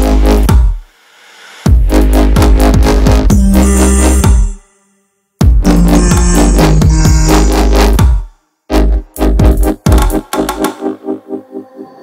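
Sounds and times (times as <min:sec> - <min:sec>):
electronic music with heavy bass: 0:00.0 - 0:04.8, 0:05.4 - 0:12.0.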